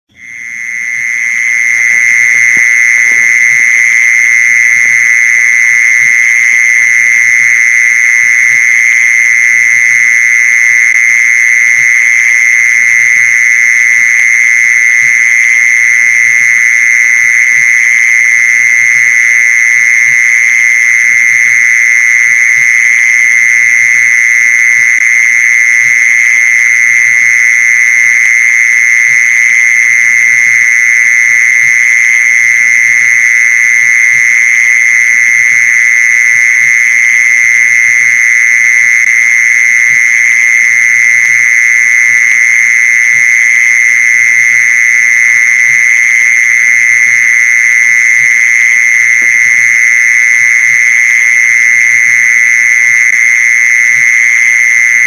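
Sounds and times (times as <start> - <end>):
mole cricket trill: 0.1 - 55.0.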